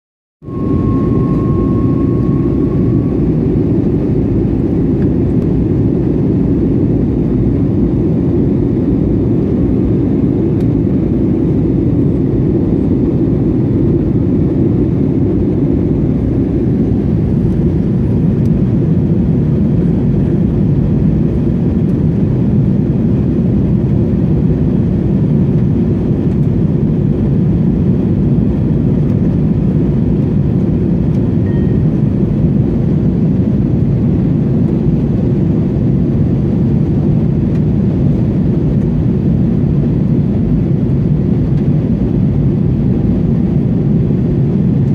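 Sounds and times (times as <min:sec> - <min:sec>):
airliner cabin jet rumble: 0:00.4 - 0:44.9.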